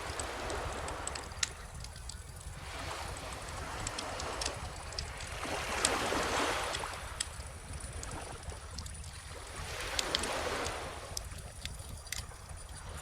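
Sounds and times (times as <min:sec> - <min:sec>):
bonfire crackling and popping: 0:00.0 - 0:13.0
ocean waves washing ashore: 0:00.0 - 0:13.0.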